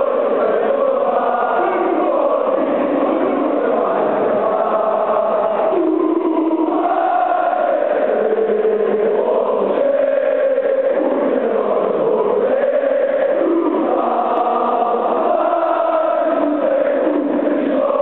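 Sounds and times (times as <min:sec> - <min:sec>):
stadium crowd chanting: 0:00.0 - 0:18.0.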